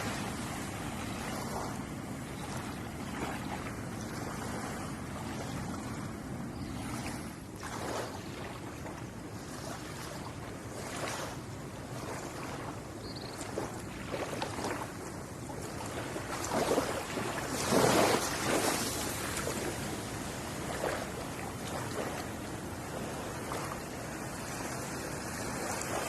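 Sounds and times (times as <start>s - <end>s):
ocean waves washing onto shore: 0.0s - 26.0s.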